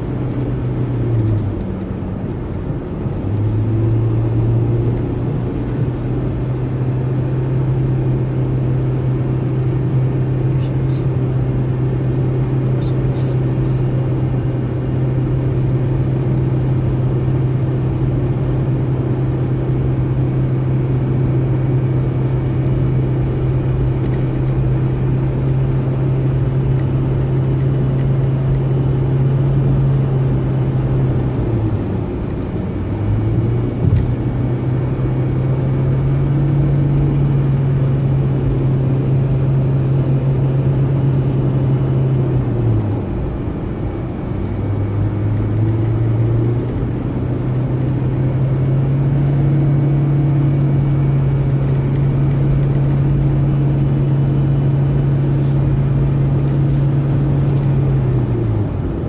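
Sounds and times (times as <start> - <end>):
car engine hum: 0.0 - 59.0
tyre and road rumble: 0.0 - 59.0.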